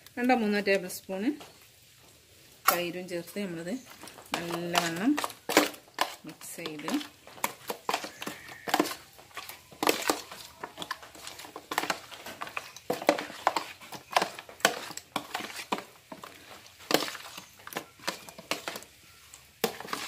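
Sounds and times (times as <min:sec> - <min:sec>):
wet squishes of meat in marinade: 0:03.8 - 0:20.0.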